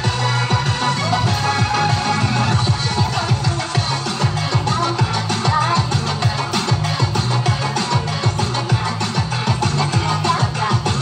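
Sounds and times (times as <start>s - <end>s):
bass line: 0.0s - 11.0s
electronic dance music: 0.0s - 11.0s
kick drum: 0.0s - 11.0s.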